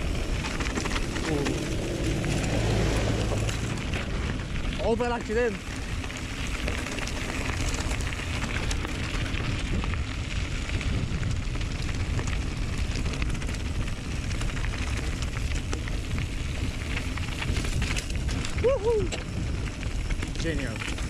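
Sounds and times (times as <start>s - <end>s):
bike clicks and rattles: 0.0s - 21.0s
tyres crackling over stony trail: 0.0s - 21.0s
wind buffeting microphone: 0.0s - 21.0s.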